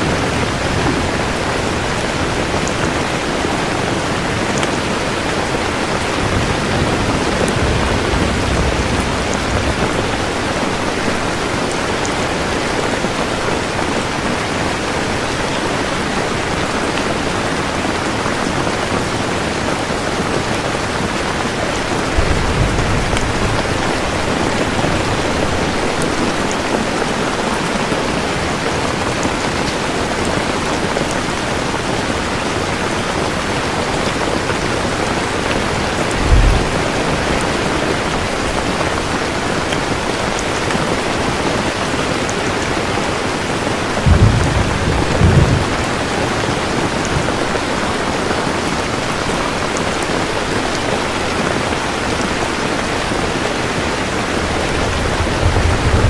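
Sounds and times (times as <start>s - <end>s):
thunder rumbles: 0.0s - 15.5s, 19.7s - 29.4s, 30.2s - 49.2s, 53.2s - 56.0s
heavy rain: 0.0s - 56.0s.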